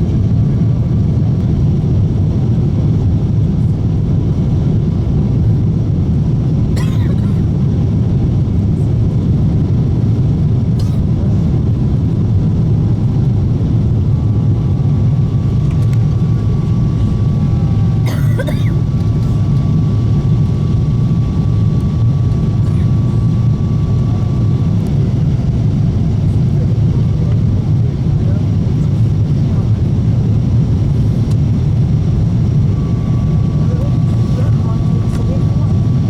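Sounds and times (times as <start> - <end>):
airliner cabin rumble: 0.0 - 36.0.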